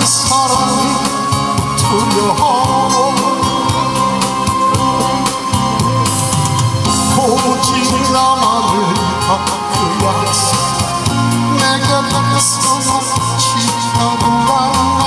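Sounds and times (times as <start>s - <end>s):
person singing: 0.0s - 5.5s, 6.1s - 15.0s
amplified song backing music: 0.0s - 15.0s.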